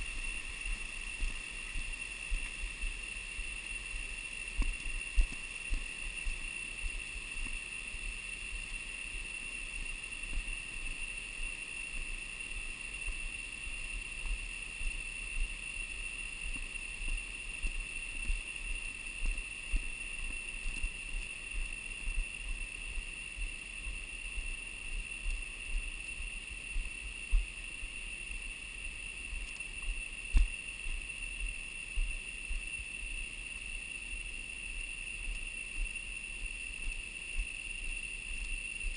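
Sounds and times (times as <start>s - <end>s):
steady high-pitched drone: 0.0s - 38.9s.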